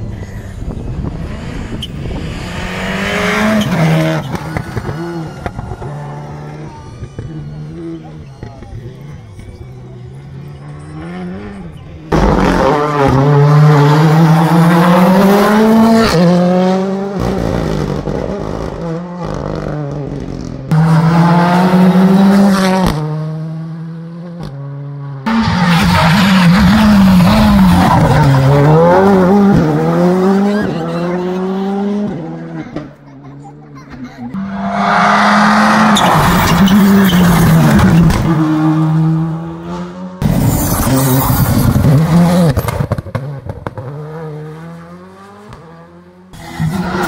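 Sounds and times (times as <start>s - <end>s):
rally car engines revving high: 0.0s - 33.2s, 33.9s - 47.0s.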